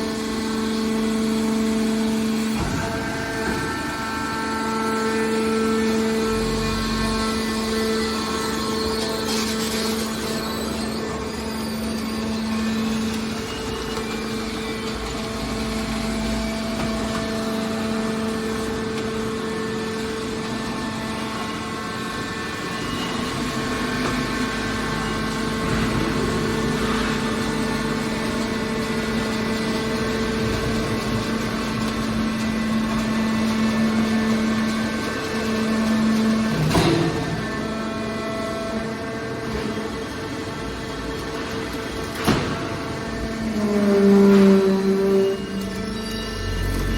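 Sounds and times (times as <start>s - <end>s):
hydraulic machine hum: 0.0s - 46.9s.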